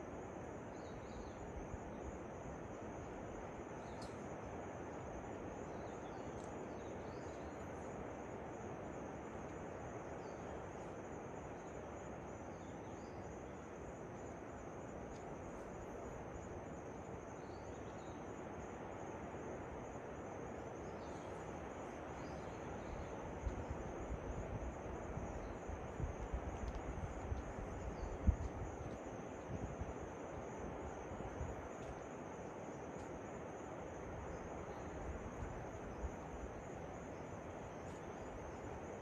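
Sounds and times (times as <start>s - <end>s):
high insect trill: 0.0s - 39.0s.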